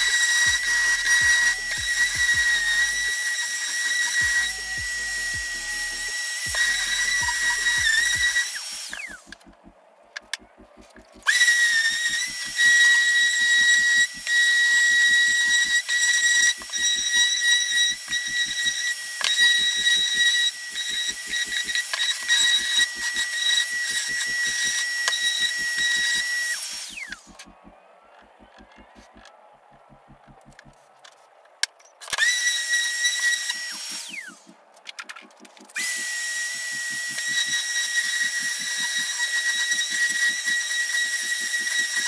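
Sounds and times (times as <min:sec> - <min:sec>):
orbital sander whining: 0:00.0 - 0:09.7, 0:10.3 - 0:29.3, 0:32.2 - 0:34.6, 0:35.2 - 0:42.0.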